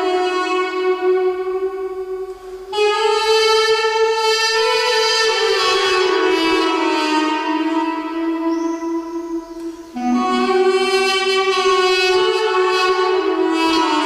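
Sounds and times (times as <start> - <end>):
duduk slow melody: 0.0 - 14.0.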